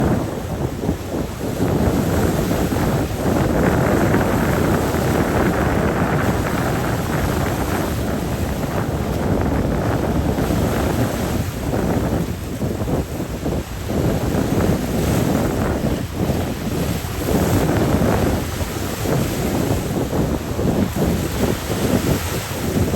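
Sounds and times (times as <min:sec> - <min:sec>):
choppy water: 0:00.0 - 0:22.9
gusting wind buffeting microphone: 0:00.0 - 0:22.9.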